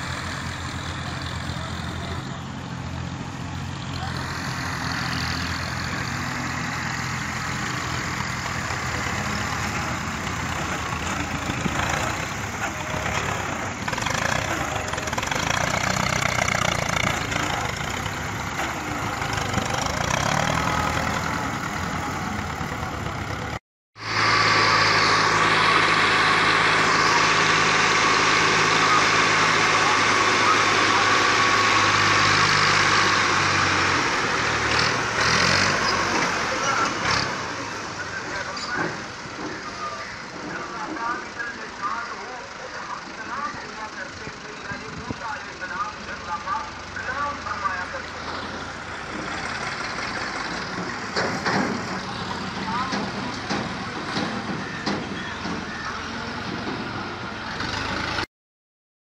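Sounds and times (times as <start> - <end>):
tractor diesel engine running: 0.0 - 58.3.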